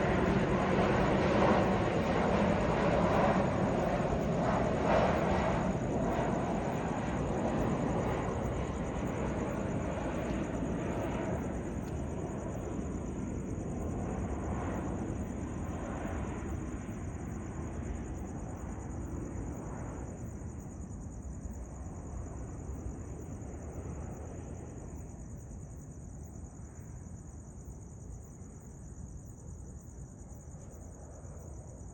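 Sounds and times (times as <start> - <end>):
jet engine rumble: 0.0 - 27.0
crickets chirping: 0.0 - 31.9.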